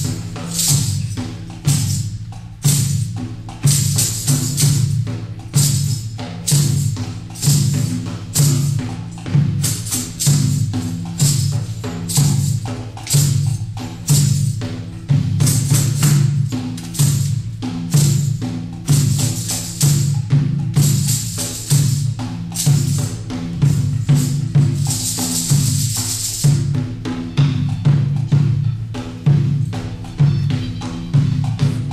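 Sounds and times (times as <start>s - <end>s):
high jingle shimmer: 0.0s - 31.9s
sharp drum slaps: 0.0s - 31.9s.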